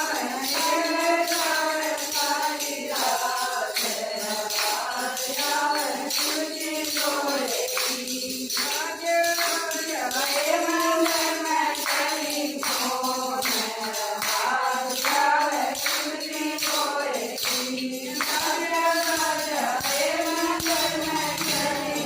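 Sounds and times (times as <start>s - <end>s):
jingling hand percussion: 0.0s - 22.0s
person singing devotional melody: 0.0s - 22.0s.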